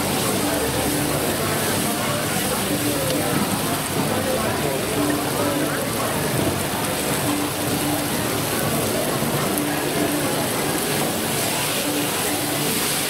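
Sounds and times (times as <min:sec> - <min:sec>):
noodles sizzling in a wok: 0:00.0 - 0:13.0.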